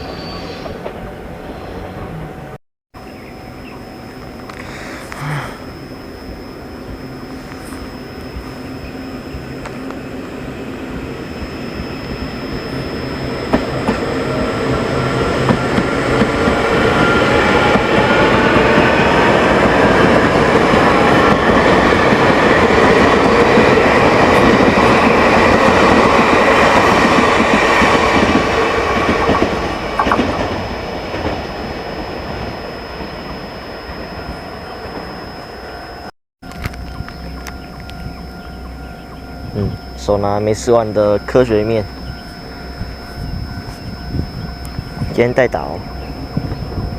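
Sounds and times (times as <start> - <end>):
whining tones: 0.0 - 46.9.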